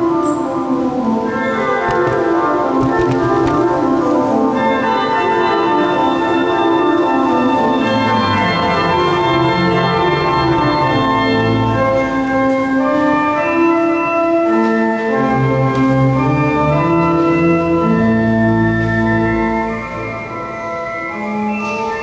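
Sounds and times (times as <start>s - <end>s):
organ playing slow chords: 1.3s - 21.7s.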